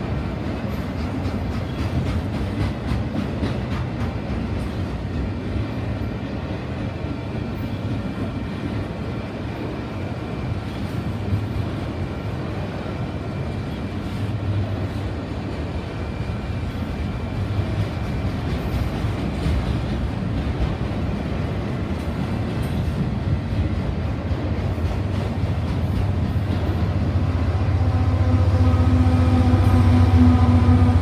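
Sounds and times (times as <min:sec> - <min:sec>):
diesel locomotive engine drone: 0:00.0 - 0:31.0
freight cars rolling on rails: 0:00.0 - 0:31.0.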